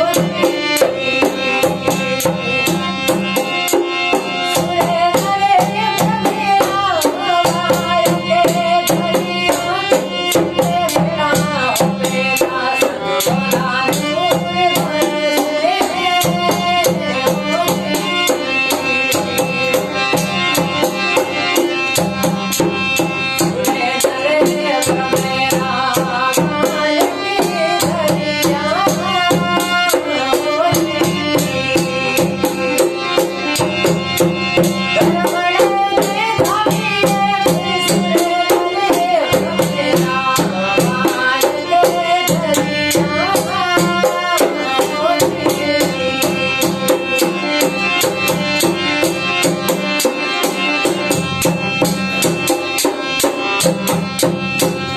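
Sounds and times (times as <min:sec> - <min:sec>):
dholak and hand percussion beat: 0:00.0 - 0:54.9.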